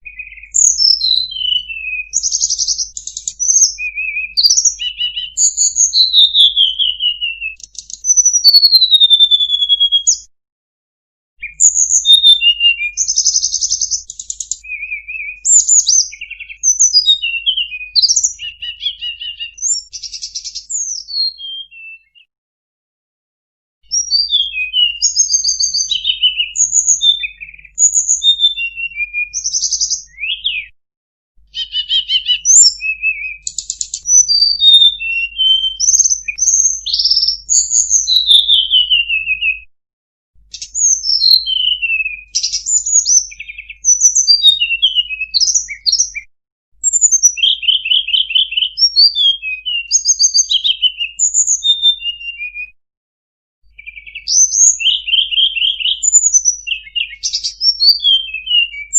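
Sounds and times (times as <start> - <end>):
bird singing varied song: 0.0 - 10.3, 11.4 - 22.3, 23.8 - 30.8, 31.4 - 39.7, 40.4 - 52.8, 53.6 - 58.9.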